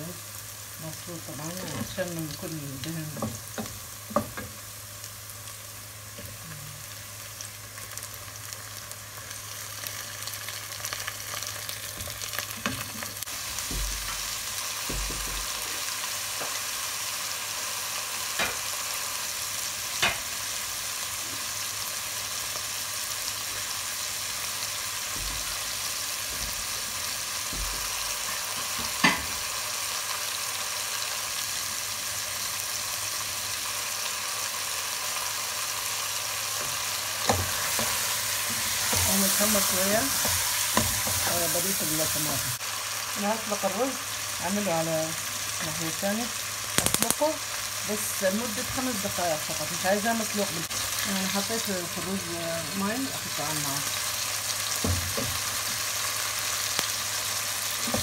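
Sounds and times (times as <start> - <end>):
chicken sizzling in a pot: 0.0 - 58.0.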